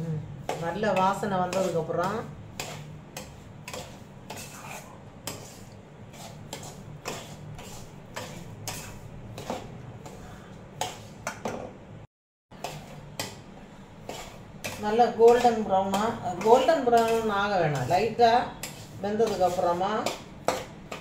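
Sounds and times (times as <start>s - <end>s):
metal spoon scraping a pan: 0.4s - 11.3s, 12.6s - 21.0s.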